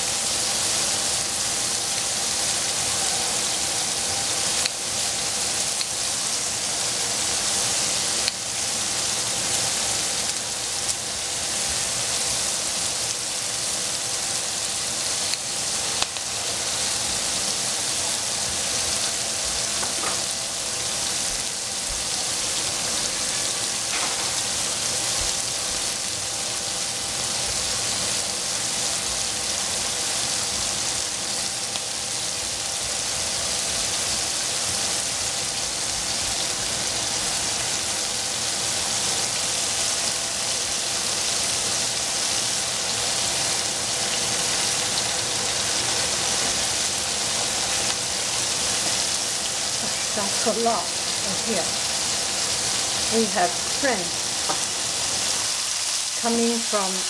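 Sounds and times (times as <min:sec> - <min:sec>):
vegetables sizzling in a pan: 0:00.0 - 0:57.0.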